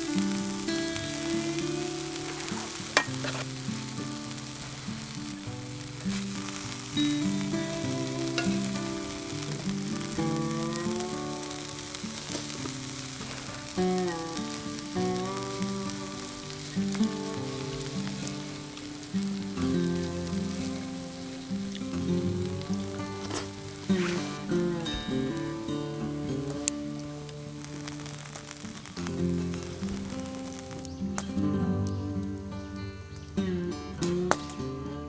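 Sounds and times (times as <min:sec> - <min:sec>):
grill sizzling and crackling: 0:00.0 - 0:35.0.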